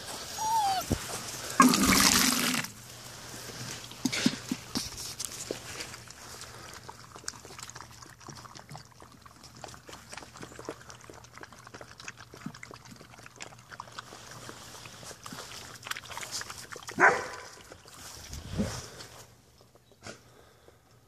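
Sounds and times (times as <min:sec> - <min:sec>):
puppies lapping and chewing: 0:00.0 - 0:20.9.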